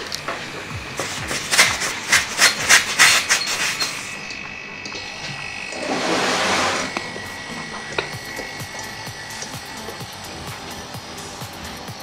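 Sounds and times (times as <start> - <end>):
air hissing from hose: 0.0 - 12.0.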